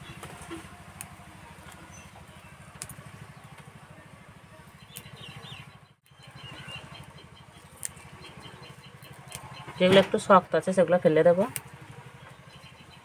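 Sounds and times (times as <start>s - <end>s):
birds chirping: 0.0s - 13.0s
small engine chugging: 0.0s - 13.0s.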